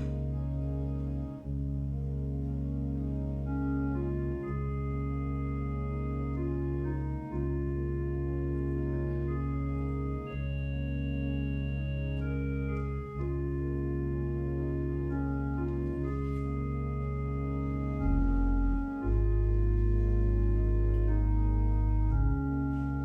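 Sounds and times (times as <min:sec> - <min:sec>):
organ playing slow chords: 0:00.0 - 0:23.0.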